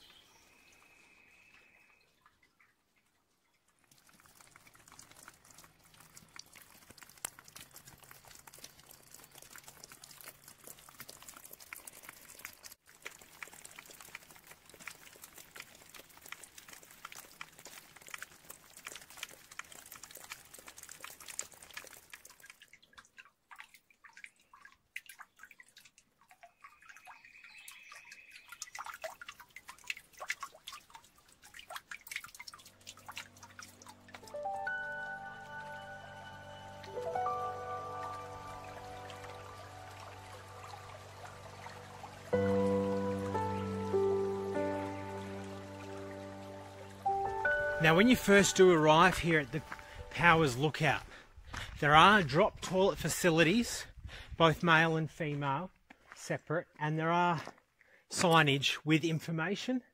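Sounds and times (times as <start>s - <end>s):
water dripping into a pool: 0.0s - 58.6s.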